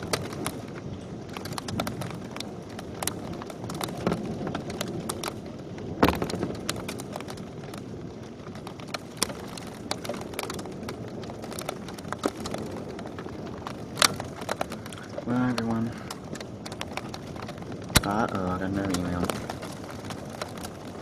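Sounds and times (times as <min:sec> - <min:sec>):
hailstones clicking and knocking: 0:00.0 - 0:21.0
rain rushing: 0:00.0 - 0:21.0.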